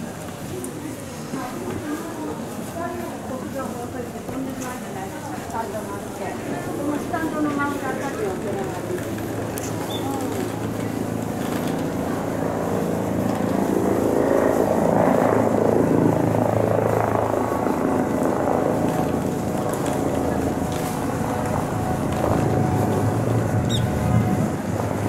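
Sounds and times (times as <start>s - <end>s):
wheel and running noise: 1.2s - 25.0s.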